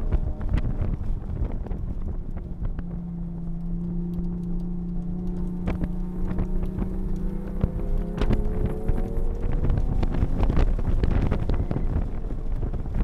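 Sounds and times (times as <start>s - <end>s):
wind and road noise: 0.0s - 13.0s
car engine pulling from inside cabin: 2.4s - 13.0s.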